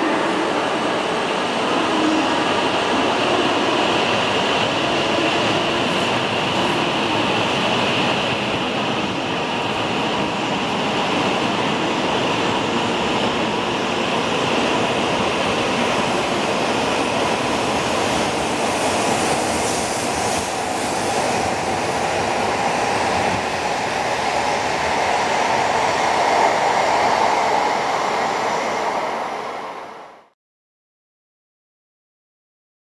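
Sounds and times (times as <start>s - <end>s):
train rolling past: 0.0s - 30.3s.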